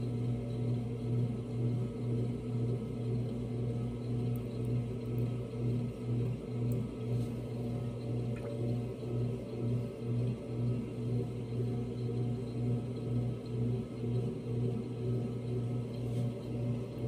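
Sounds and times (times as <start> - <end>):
pottery wheel motor humming: 0.0 - 17.0.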